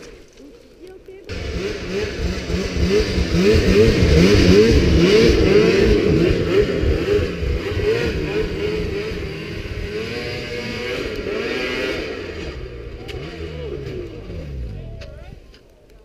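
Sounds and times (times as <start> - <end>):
snowmobile engine revving: 1.3 - 15.4.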